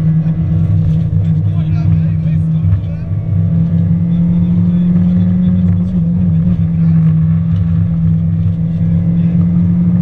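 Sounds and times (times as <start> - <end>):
car engine at high revs: 0.0 - 10.0
tyre and road noise: 0.0 - 10.0.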